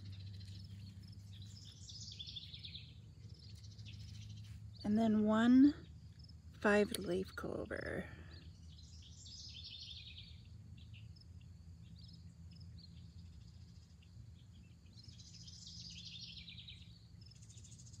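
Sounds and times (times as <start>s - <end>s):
low steady hum: 0.0s - 18.0s
small wildlife chirping and trilling: 0.0s - 18.0s.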